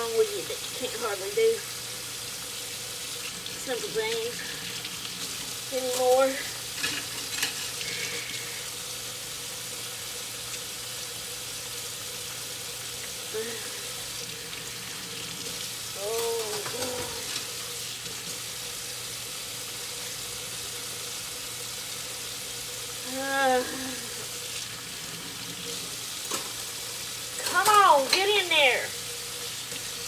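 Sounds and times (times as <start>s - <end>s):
faucet water running into sink: 0.0s - 30.0s.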